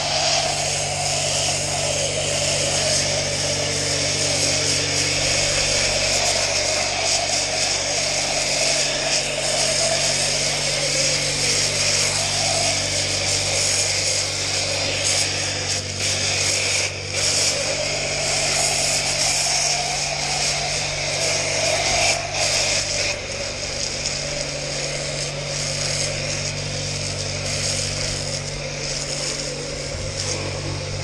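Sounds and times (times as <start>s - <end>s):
pressure washer spray hissing: 0.0s - 31.0s
steady low hum: 0.0s - 31.0s.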